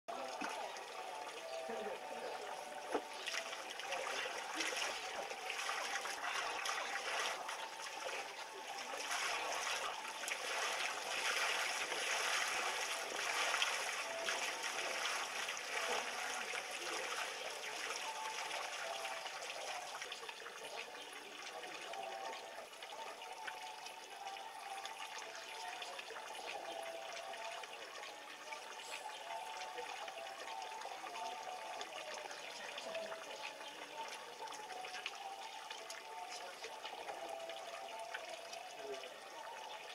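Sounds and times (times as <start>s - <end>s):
water trickling in a bathtub: 0.1s - 39.9s.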